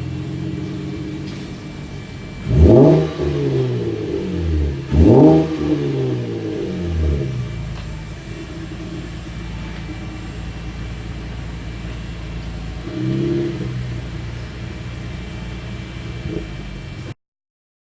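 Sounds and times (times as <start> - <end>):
car engine idling and revving: 0.0 - 17.2.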